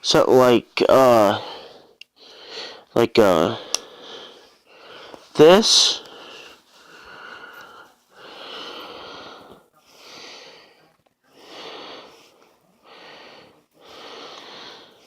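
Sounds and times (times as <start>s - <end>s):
person breathing through nose: 1.4s - 2.9s, 3.6s - 5.3s, 6.0s - 15.0s.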